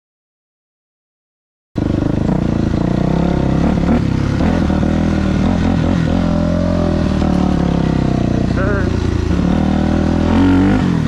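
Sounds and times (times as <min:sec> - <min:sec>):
dirt bike engine running: 0:01.8 - 0:11.0.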